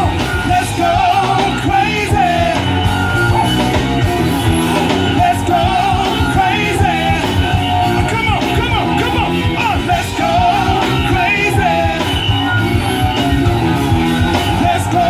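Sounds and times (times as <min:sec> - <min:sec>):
person singing: 0:00.0 - 0:03.7, 0:04.4 - 0:15.0
live band playing: 0:00.0 - 0:15.0.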